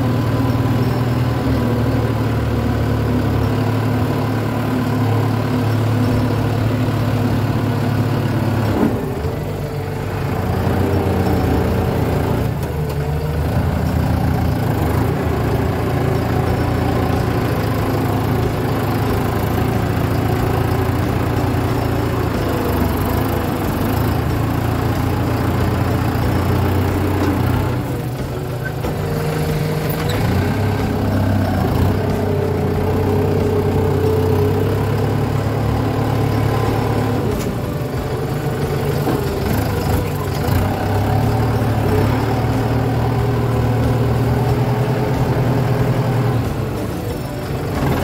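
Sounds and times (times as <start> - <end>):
tractor diesel engine running: 0.0 - 48.0.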